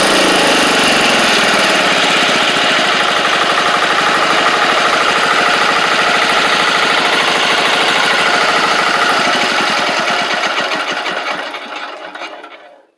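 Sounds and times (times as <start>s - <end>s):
diesel engine running: 0.0s - 12.8s.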